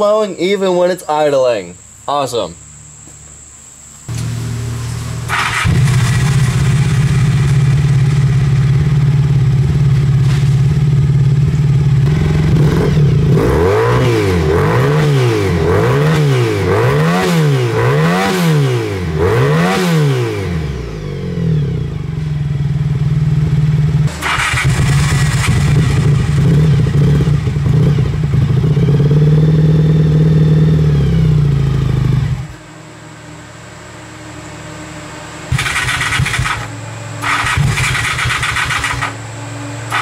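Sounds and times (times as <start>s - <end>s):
motorcycle engine idling and revving: 4.1s - 40.0s.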